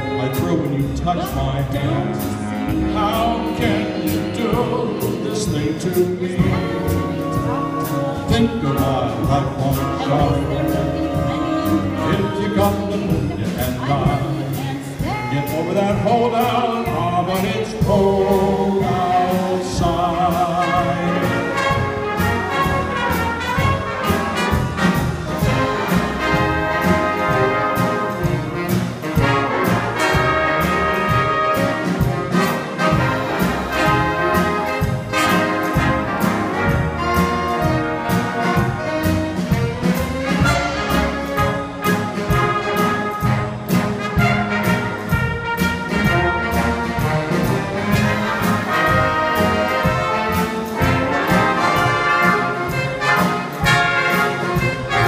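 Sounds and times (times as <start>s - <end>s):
big band playing: 0.0s - 55.0s.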